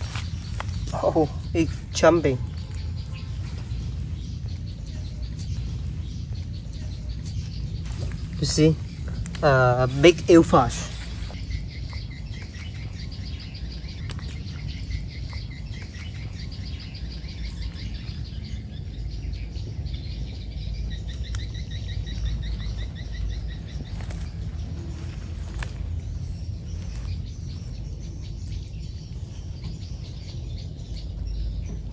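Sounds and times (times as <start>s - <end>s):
high chirps: 0.0s - 31.9s
steady low rumble: 0.0s - 31.9s.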